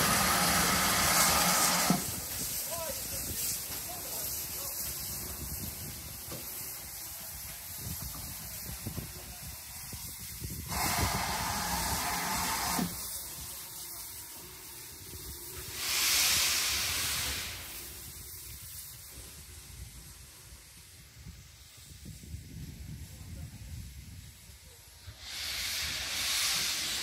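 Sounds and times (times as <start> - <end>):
steam locomotive hissing steam: 0.0 - 27.0.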